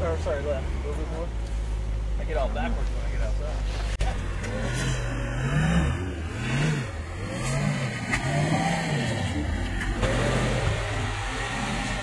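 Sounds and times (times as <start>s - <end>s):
suv engine revving off-road: 0.0s - 12.0s.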